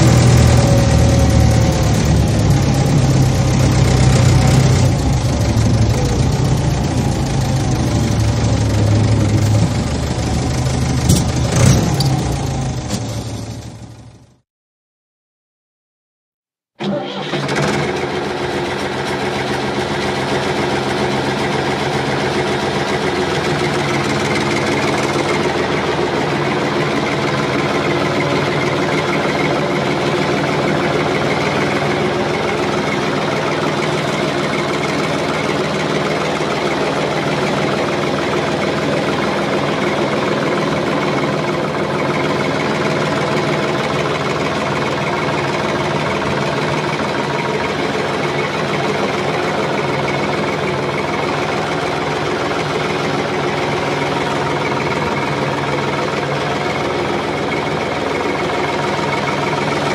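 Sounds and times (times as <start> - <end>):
heavy machinery engine drone: 0.0 - 14.4, 16.8 - 59.9.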